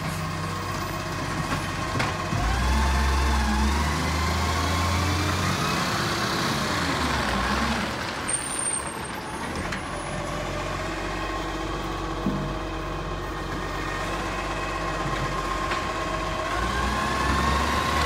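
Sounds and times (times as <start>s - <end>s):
garbage truck diesel engine: 0.0s - 18.0s.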